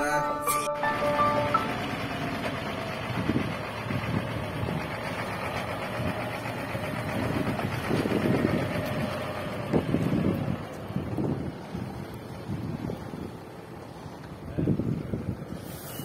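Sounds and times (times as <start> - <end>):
truck diesel engine rumbling: 0.0 - 16.0.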